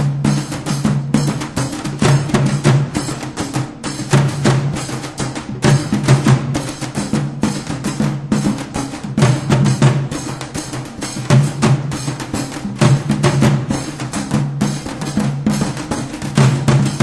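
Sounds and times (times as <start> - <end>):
drums played fast: 0.0 - 17.0.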